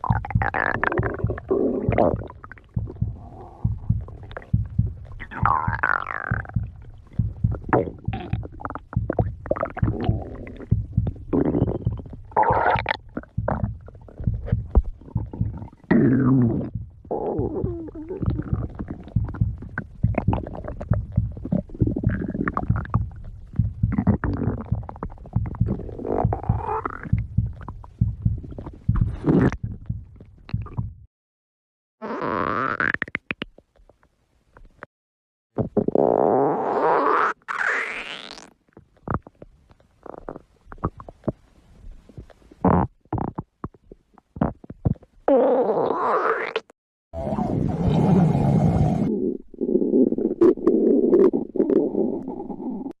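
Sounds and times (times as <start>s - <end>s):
stomach growling and gurgling: 0.0s - 31.1s, 35.6s - 53.0s.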